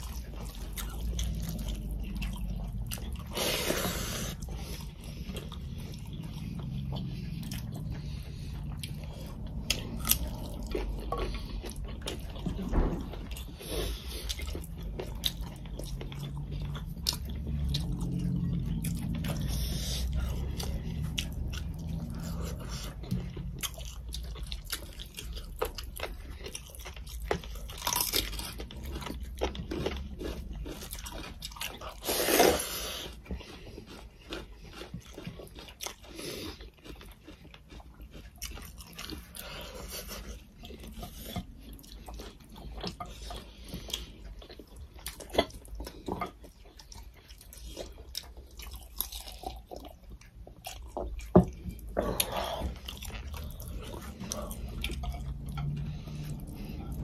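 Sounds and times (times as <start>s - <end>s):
chewing and mouth-smacking: 0.0s - 57.0s.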